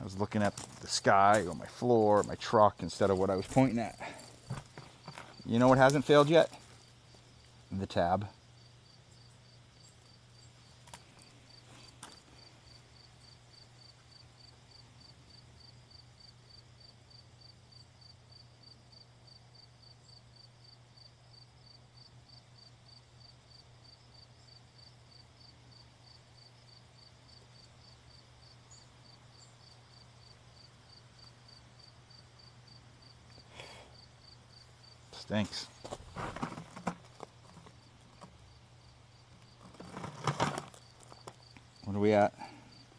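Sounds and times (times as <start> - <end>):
cricket chirping: 0.0 - 42.9.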